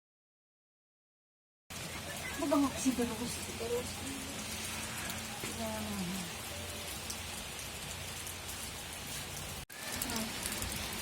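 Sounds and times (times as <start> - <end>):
steady rain falling: 1.7 - 11.0.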